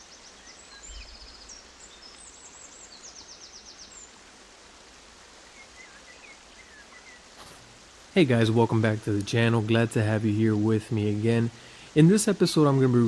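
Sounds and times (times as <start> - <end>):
small birds chirping and trilling: 0.0 - 13.0
steady background hiss: 0.0 - 13.0.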